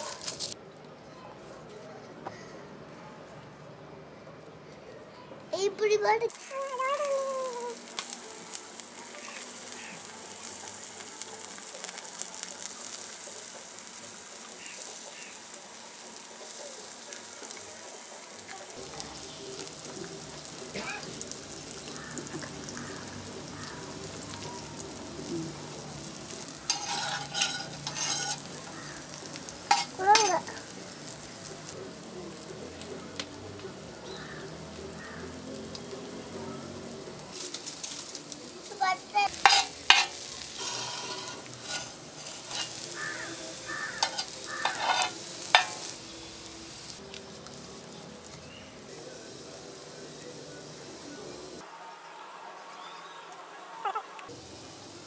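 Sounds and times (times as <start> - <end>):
plantain slices sizzling in oil: 0.0 - 0.6, 6.2 - 55.0.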